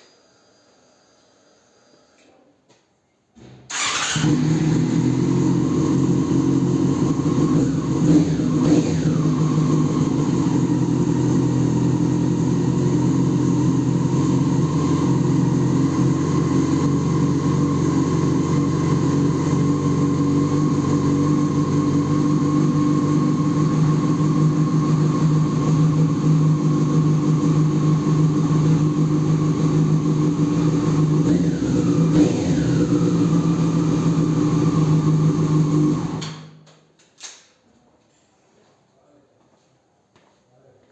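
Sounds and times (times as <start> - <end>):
motorcycle engine revving and idling: 3.7 - 36.6.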